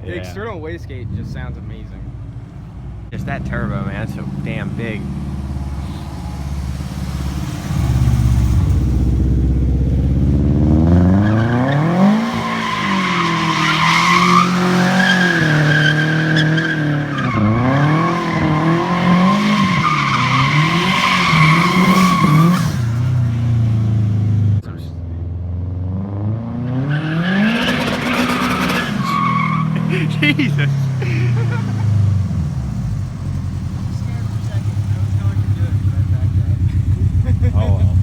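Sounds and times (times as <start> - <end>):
tyres squealing: 0.0 - 8.7, 11.0 - 23.9, 27.5 - 38.0
car engine revving: 0.0 - 38.0.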